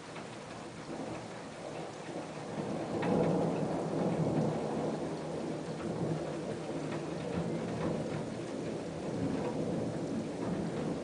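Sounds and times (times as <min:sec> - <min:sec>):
steady rain: 0:00.0 - 0:11.0
thunder rolling: 0:00.9 - 0:11.0.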